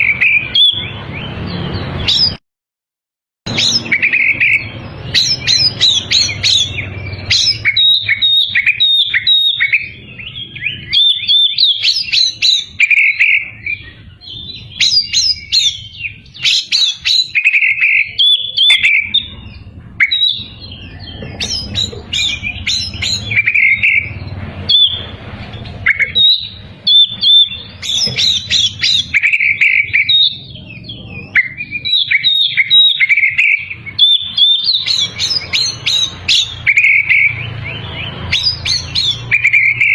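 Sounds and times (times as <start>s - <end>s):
bird singing: 0.0s - 2.4s, 3.5s - 39.9s.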